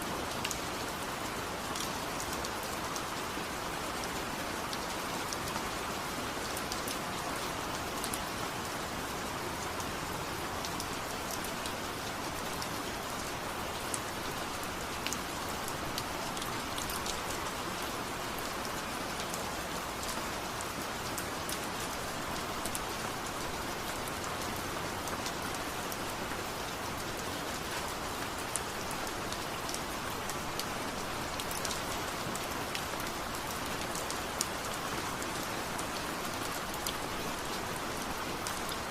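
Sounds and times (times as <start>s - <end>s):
steady rain falling: 0.0s - 38.9s
raindrops ticking on a surface: 0.1s - 38.9s.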